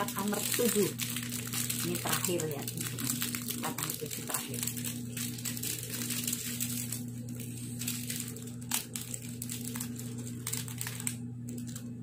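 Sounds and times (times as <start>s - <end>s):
steady low hum: 0.0s - 12.0s
wrapper crinkling: 0.0s - 12.0s.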